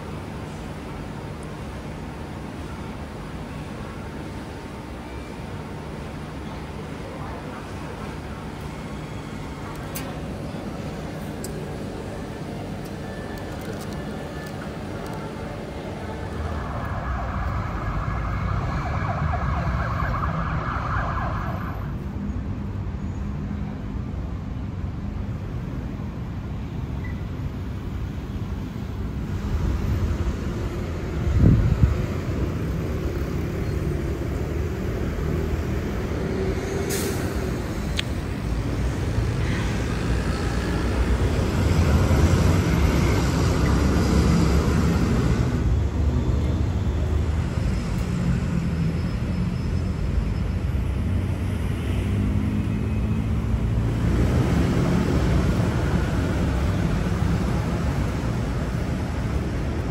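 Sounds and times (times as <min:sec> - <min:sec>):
street traffic rumble: 0:00.0 - 0:59.9.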